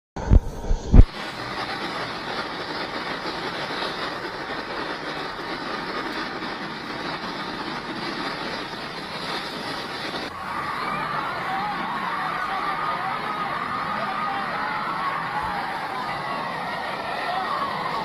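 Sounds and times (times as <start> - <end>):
strong wind blowing: 0.2 - 18.0.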